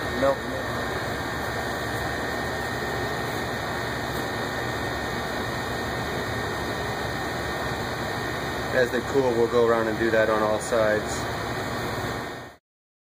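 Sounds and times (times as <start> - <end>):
ventilation hiss and hum: 0.0 - 12.6.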